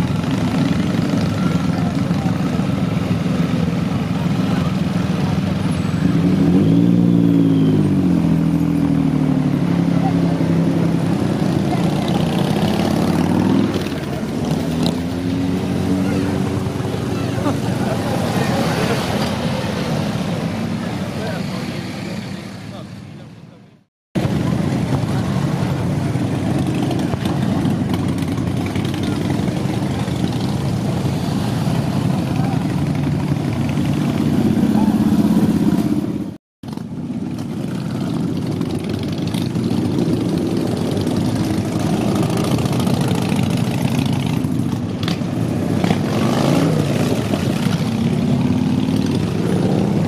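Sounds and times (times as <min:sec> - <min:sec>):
motorcycle accelerating: 0:00.0 - 0:22.9, 0:24.2 - 0:50.0
motorcycle engines running: 0:00.0 - 0:50.0.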